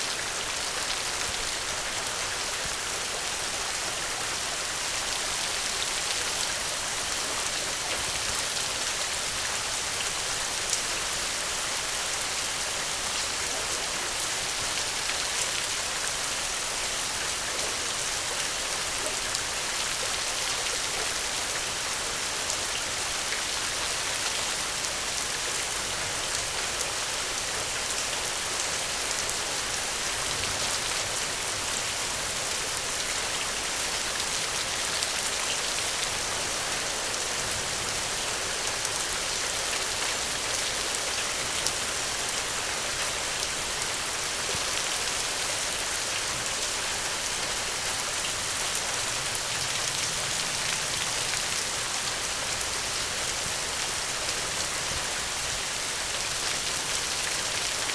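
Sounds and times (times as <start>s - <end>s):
steady gentle rain: 0.0s - 57.9s.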